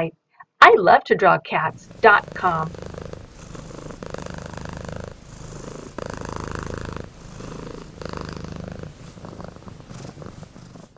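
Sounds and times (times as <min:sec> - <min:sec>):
cat purring: 0:01.7 - 0:10.9.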